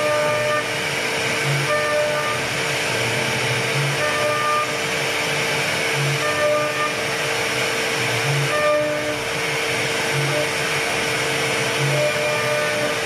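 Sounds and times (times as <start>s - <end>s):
router spindle whining: 0.0s - 13.0s.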